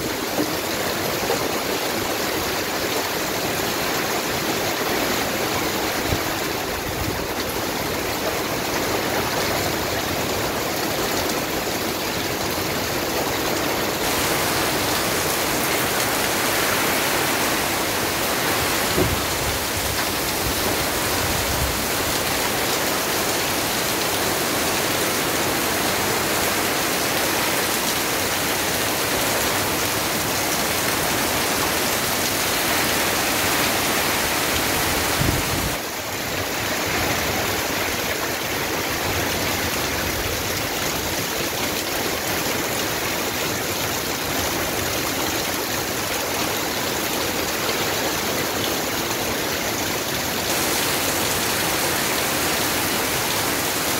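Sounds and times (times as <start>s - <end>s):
heavy rain on leaves: 0.0s - 53.9s.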